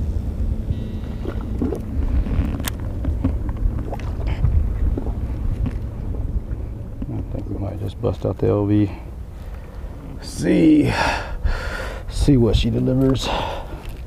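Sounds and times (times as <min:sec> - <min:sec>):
wind rumbling on microphone: 0:00.0 - 0:08.2, 0:08.8 - 0:14.0.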